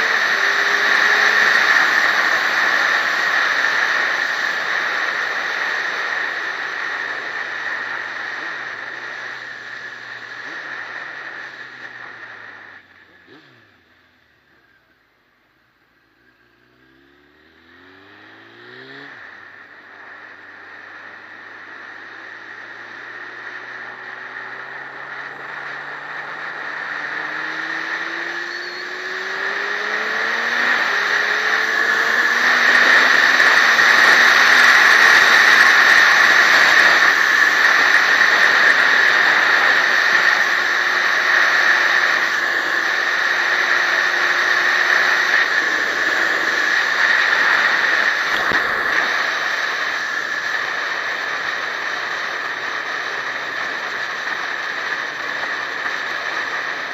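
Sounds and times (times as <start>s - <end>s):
motorcycle engine accelerating: 0.0s - 56.9s
wind and road noise: 0.0s - 56.9s.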